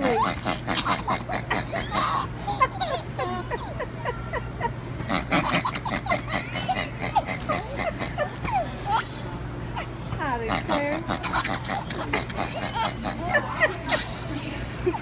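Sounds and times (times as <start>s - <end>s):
baby laughing: 0.0s - 9.9s, 11.1s - 15.0s.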